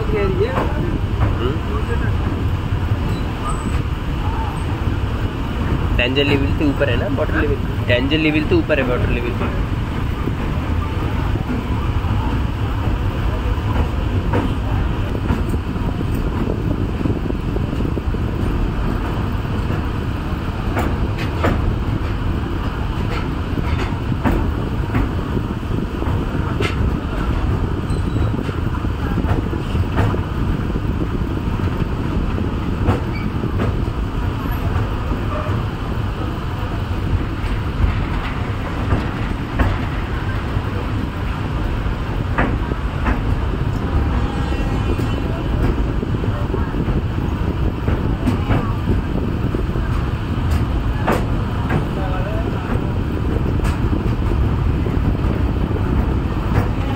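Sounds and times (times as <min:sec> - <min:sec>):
train rumbling on bridge: 0:00.0 - 0:56.9
train wheels clicking and knocking: 0:00.0 - 0:56.9.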